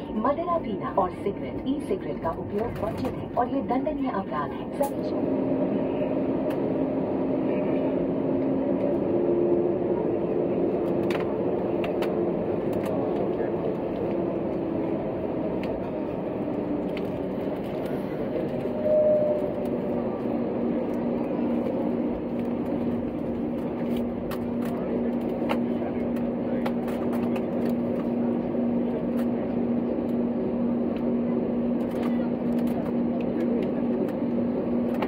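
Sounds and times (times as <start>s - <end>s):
aircraft engine and airflow hum: 0.0s - 35.0s
low steady drone: 0.0s - 35.0s.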